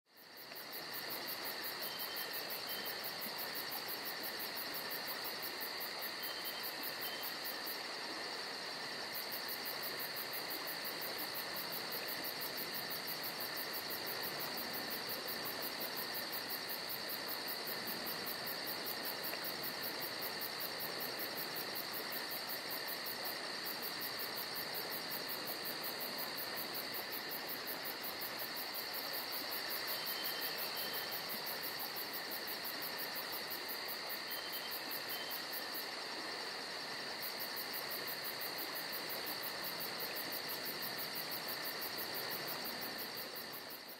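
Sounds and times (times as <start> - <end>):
insects chirping: 0.1 - 43.9.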